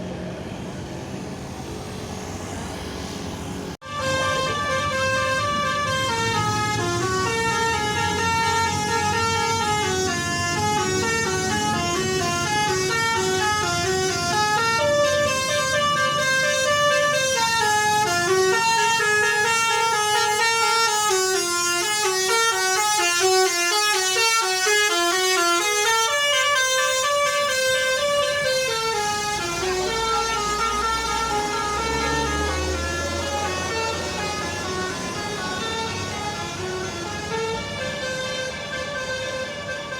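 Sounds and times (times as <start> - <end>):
bus air horns playing a tune: 3.8 - 39.9.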